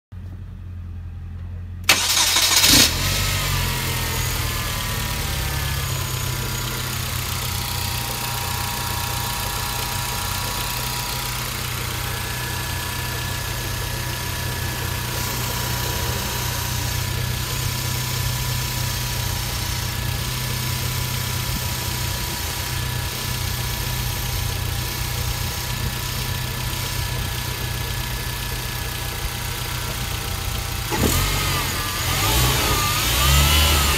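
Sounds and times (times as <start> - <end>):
car engine starting and idling: 0.2 - 33.9
idler pulley bearing whine: 3.6 - 33.9.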